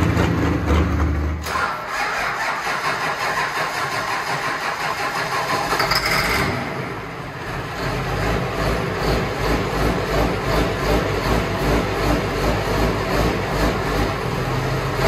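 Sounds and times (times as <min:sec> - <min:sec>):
diesel engine cranking and idling: 0:00.0 - 0:15.0.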